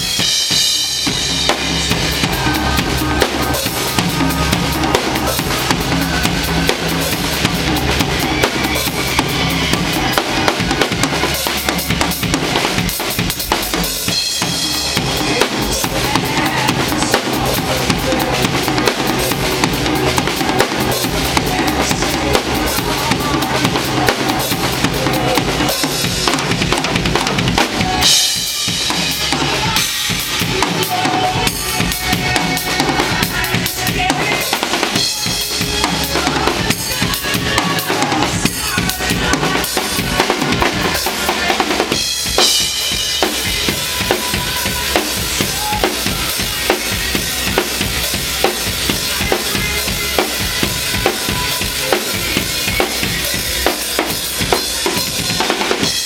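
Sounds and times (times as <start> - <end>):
bass drum: 0.0 - 56.0.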